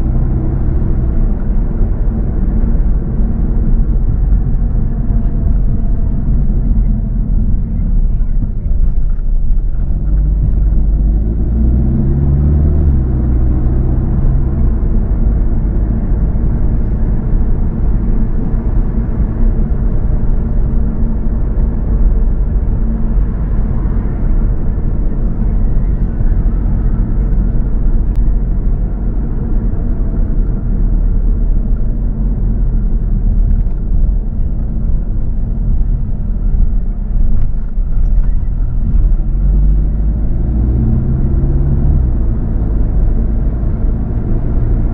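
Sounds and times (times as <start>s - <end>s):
car engine and tyre noise: 0.0s - 44.9s.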